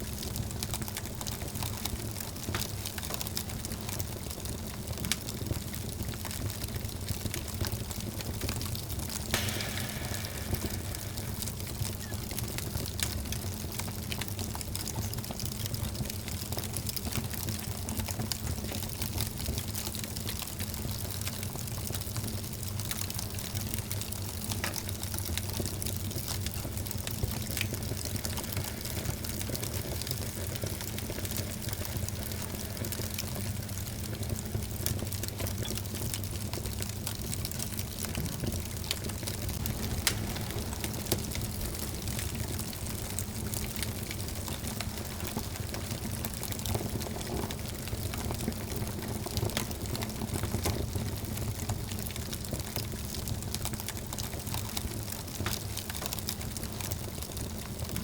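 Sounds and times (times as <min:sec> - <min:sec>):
fire crackles and pops: 0:00.0 - 0:58.0
wood fire hissing and rumbling: 0:00.0 - 0:58.0.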